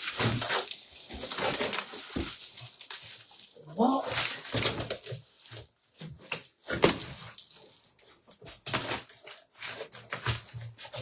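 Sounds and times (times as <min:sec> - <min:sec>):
cardboard and tape crackling: 0:00.0 - 0:11.0.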